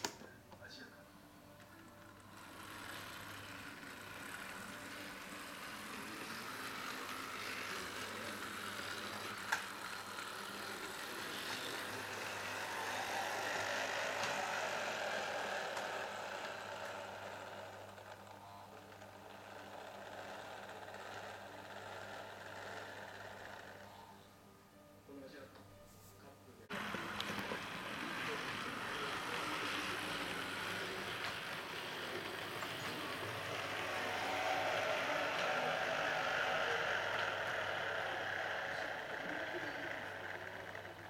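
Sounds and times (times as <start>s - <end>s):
model train rolling: 1.4s - 24.2s, 26.7s - 41.0s.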